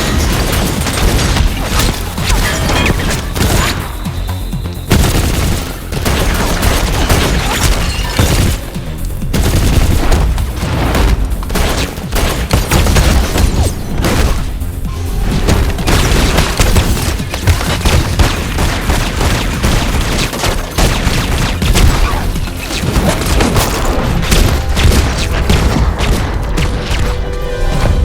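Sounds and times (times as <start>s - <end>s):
rapid gunfire: 0.0s - 27.2s
action music: 0.0s - 28.0s.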